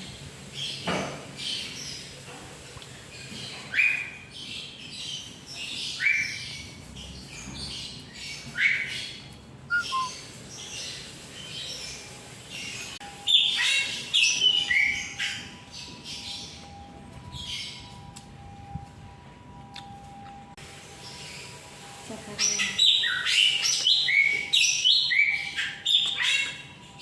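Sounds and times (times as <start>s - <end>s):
birds chirping: 3.0s - 18.7s, 21.0s - 27.0s.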